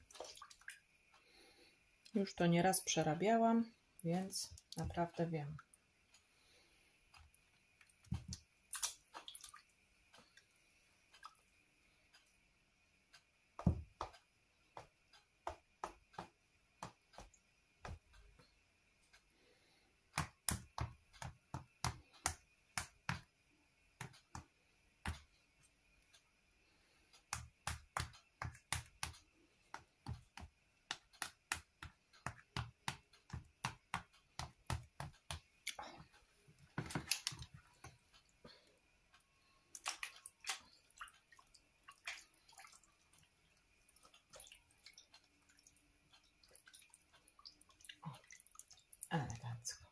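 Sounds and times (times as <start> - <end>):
hands clicking and tapping sausages: 7.0 - 10.4, 11.1 - 19.3, 20.0 - 26.4, 27.1 - 49.1.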